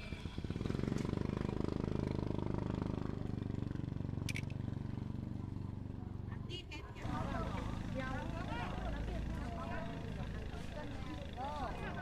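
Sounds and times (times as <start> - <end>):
small engine running: 0.0 - 5.7, 7.0 - 12.0.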